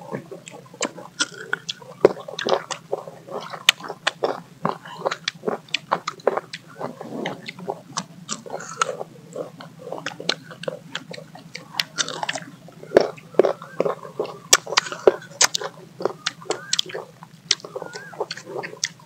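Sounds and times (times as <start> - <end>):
people crunching raw mango: 0.0 - 19.0.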